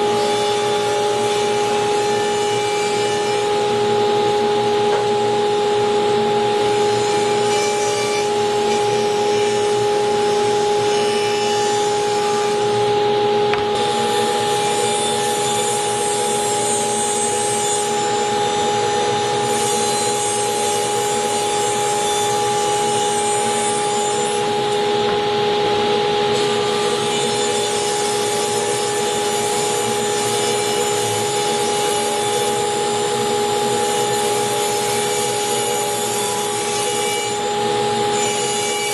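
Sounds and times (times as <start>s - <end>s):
table saw cutting wood: 0.0s - 38.9s.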